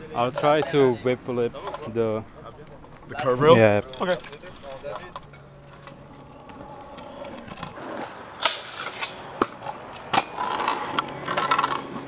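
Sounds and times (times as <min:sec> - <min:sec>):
scooter wheels rolling on asphalt: 0:00.0 - 0:12.0.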